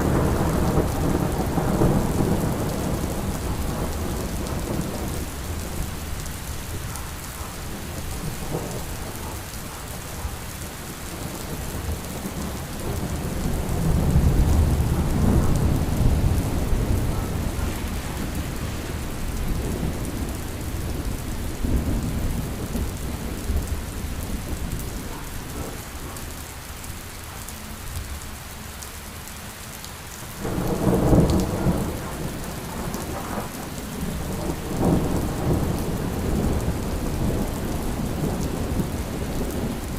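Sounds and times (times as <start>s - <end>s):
thunder rumbling: 0.0s - 26.5s, 30.4s - 39.9s
steady rain falling: 0.0s - 39.9s.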